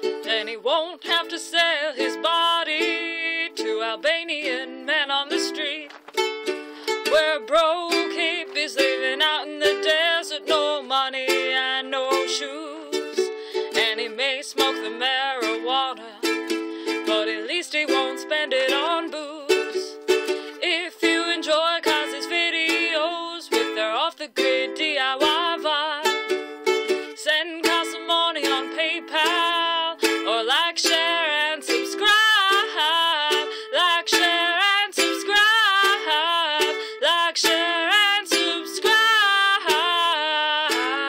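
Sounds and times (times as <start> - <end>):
person singing wordless tune: 0.0 - 41.0
plucked ukulele music: 0.0 - 41.0.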